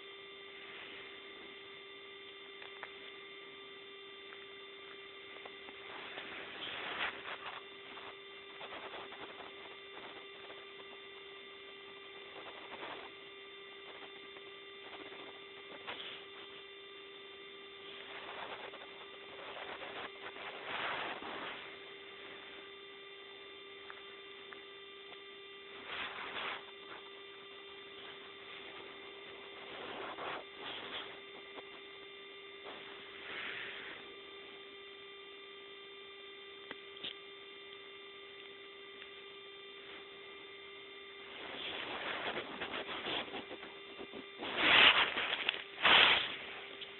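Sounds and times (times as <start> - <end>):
electrical hum: 0.0 - 46.9.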